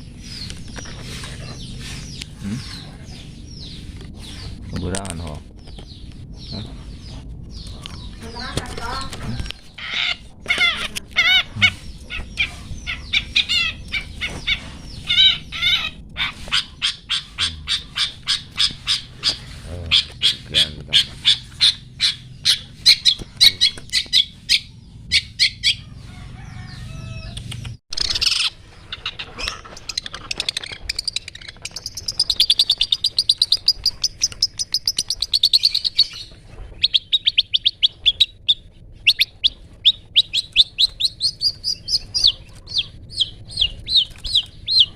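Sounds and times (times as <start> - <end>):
songbird calling sharp notes: 0.0 - 44.9.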